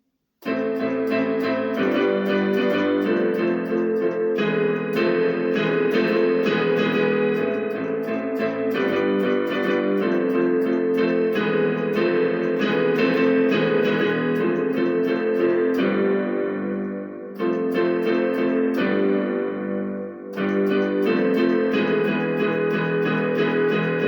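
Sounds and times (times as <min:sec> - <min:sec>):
keyboard music with piano: 0:00.4 - 0:24.0.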